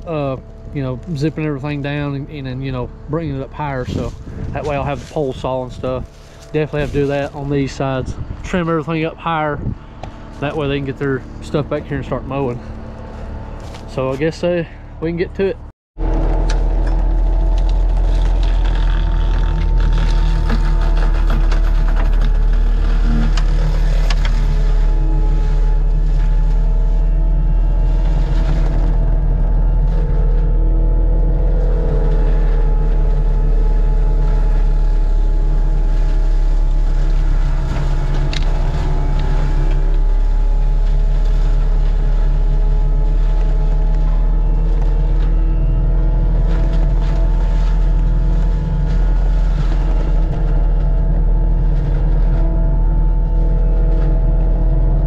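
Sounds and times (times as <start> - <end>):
diesel engine droning: 0.0 - 55.0
high whining tone: 0.0 - 55.0.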